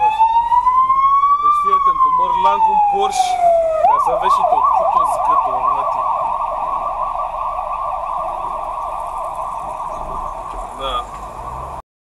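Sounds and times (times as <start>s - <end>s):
ambulance siren yelping: 0.0s - 11.8s.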